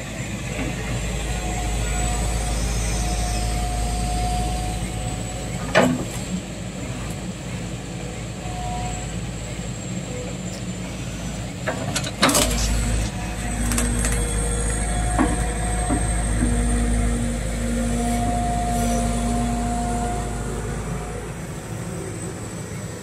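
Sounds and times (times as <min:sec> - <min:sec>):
excavator diesel engine running: 0:00.0 - 0:23.0
hydraulic whine: 0:00.0 - 0:23.0.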